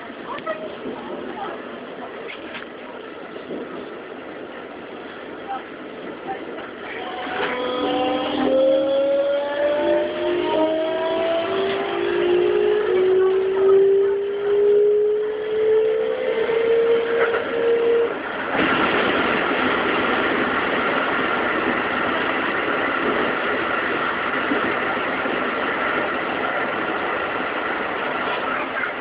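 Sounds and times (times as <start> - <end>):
electric train inverter whine: 0.0 - 29.0
train wheels rumbling on rails: 0.0 - 29.0.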